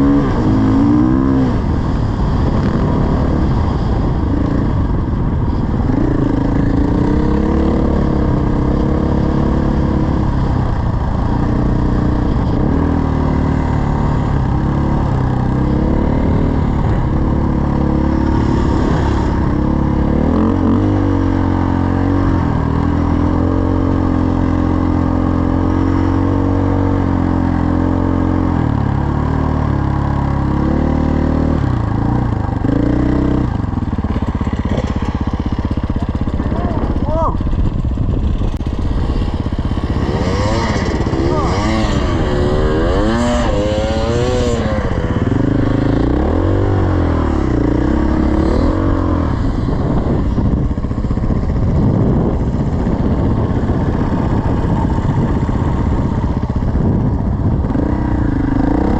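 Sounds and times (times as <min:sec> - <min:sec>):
dirt bike engine revving: 0:00.0 - 0:05.1, 0:05.8 - 0:58.9.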